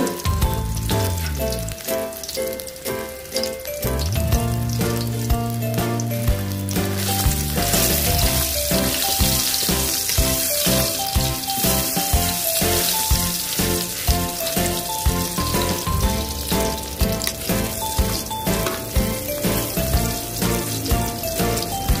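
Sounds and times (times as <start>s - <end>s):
background music with beat: 0.0s - 22.0s
food sizzling in oil: 0.0s - 22.0s.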